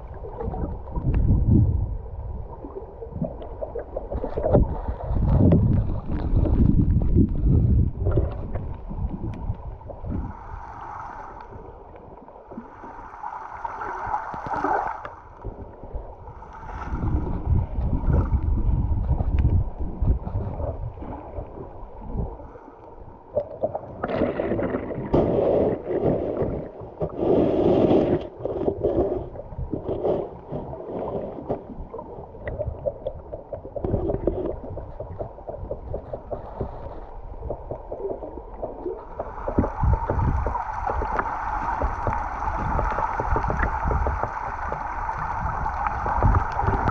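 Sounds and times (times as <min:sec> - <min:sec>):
underwater river current rumbling: 0:00.0 - 0:46.9.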